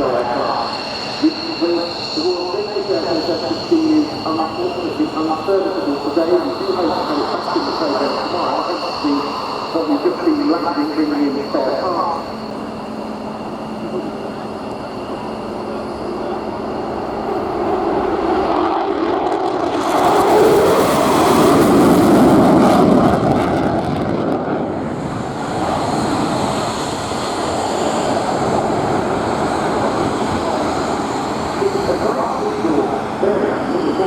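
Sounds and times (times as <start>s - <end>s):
fighter jet flying past: 0.0s - 34.0s.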